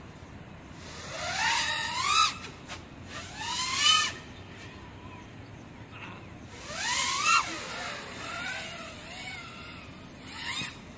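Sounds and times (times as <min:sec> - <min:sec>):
drone motors whining: 0:00.7 - 0:10.9.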